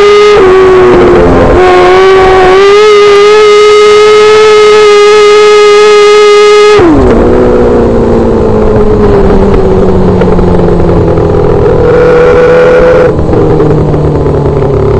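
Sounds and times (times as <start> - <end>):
small race car engine: 0.0 - 14.9.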